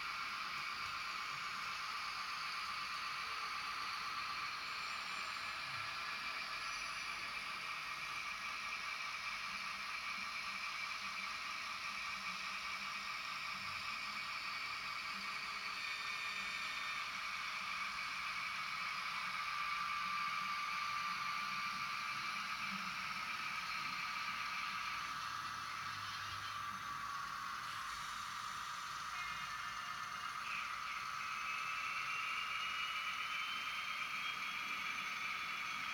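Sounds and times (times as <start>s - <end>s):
model train motors whirring: 0.0s - 35.9s.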